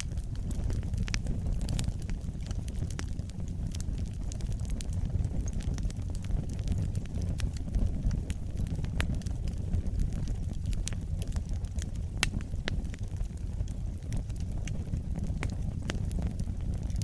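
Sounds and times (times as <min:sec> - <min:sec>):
flames rumbling: 0:00.0 - 0:17.0
wood fire crackling and popping: 0:00.0 - 0:17.0.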